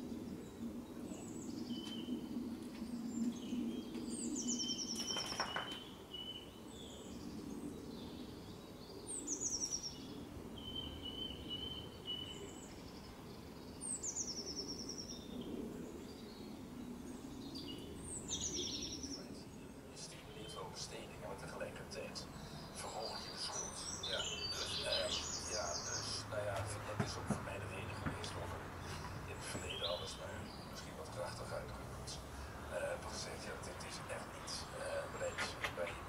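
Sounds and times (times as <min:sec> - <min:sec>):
faint bird chirps: 0:00.0 - 0:36.0
low background hum: 0:00.0 - 0:36.0
songbird singing: 0:00.0 - 0:36.0.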